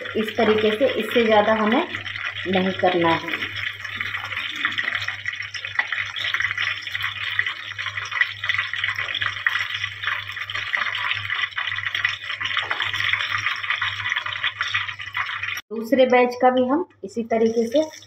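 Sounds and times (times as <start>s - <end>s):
hot oil sizzling and crackling: 0.0s - 15.6s.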